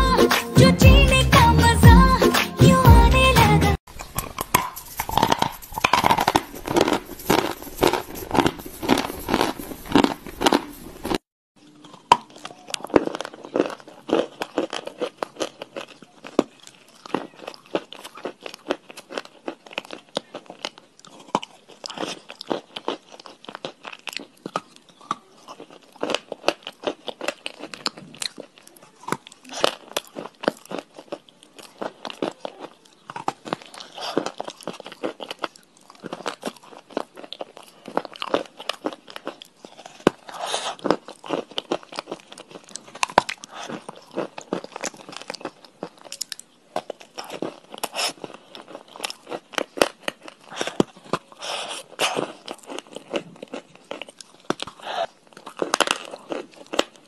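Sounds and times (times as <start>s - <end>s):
chalk crunching being chewed: 3.9s - 57.0s.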